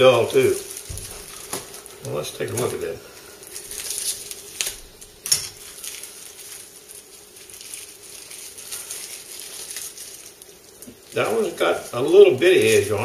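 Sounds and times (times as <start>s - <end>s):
wrapping rustling: 0.0s - 13.0s.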